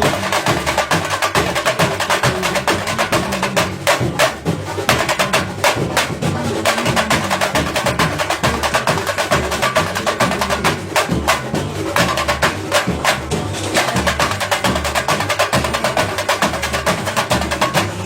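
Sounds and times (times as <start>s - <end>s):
bass line: 0.0s - 18.0s
drums and hand percussion: 0.0s - 18.0s.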